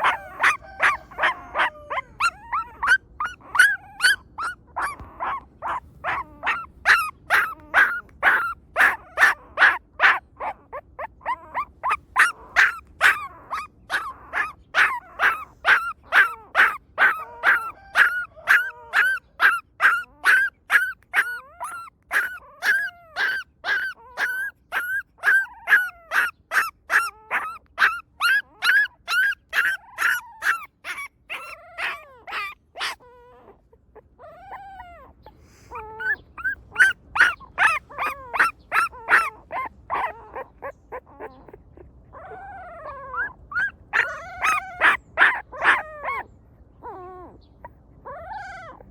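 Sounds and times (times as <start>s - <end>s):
puppy crying: 0.0s - 48.9s.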